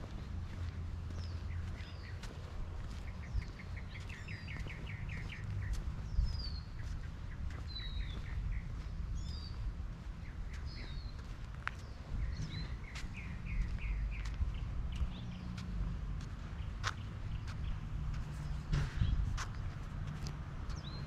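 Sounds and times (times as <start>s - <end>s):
small songbirds chirping: 0.0s - 21.0s
steady low rumble: 0.0s - 21.0s.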